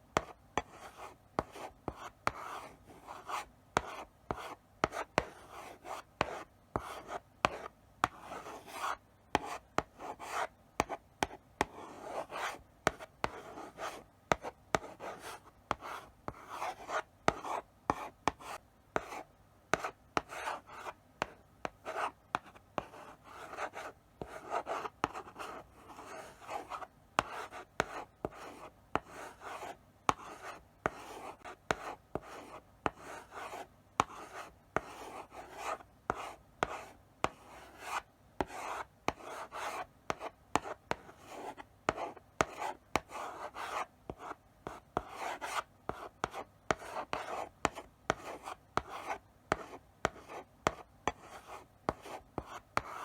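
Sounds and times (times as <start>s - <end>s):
chalk scratching on blackboard: 0.2s - 53.0s
chalk tapping on board: 3.2s - 53.0s.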